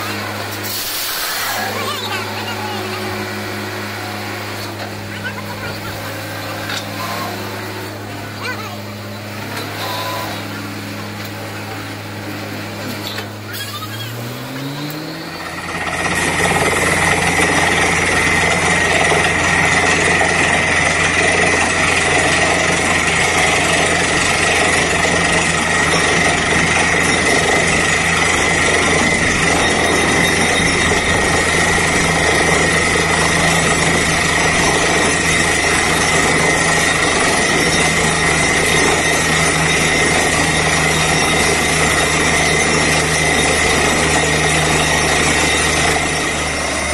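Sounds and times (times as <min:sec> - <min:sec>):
drilling rig engine revving: 0:00.0 - 0:46.9
loud drilling hammer noise: 0:00.0 - 0:46.9.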